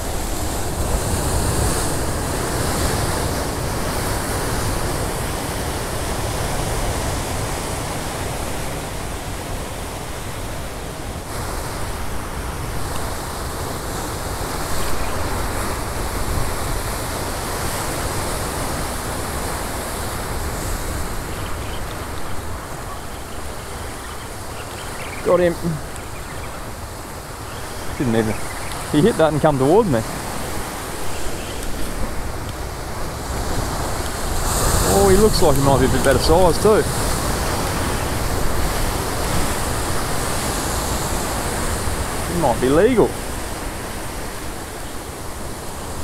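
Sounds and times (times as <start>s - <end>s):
surf breaking over rocks: 0.0s - 46.0s.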